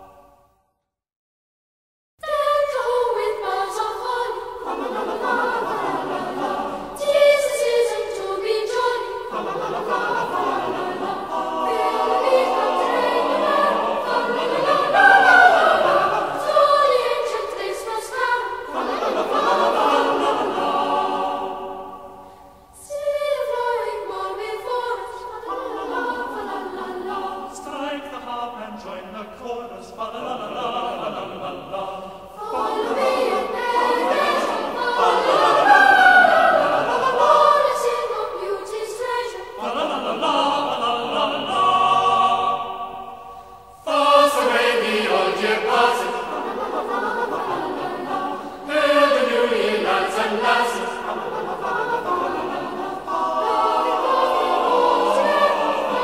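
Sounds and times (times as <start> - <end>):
choir singing: 0.0 - 0.4, 2.2 - 56.0.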